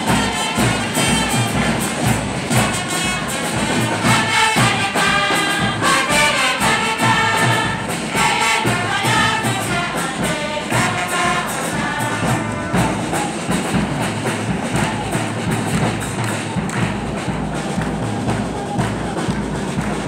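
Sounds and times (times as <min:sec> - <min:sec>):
choir and congregation singing hymn: 0:00.0 - 0:16.6
steady percussive beat: 0:00.0 - 0:20.0.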